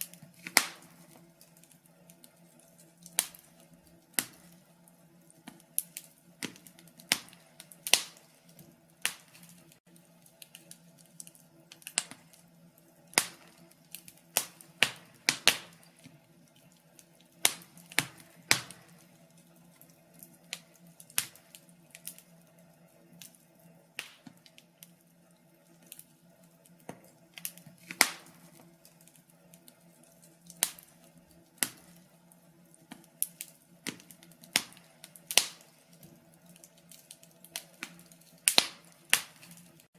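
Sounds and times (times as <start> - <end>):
faint steady hum: 0.0 - 39.9
wood fire crackling and popping: 0.0 - 39.9.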